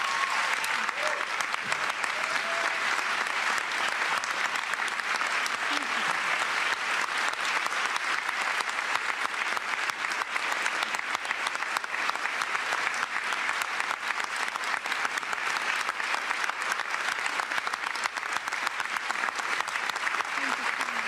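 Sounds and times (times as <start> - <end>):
large audience applauding: 0.0 - 21.0.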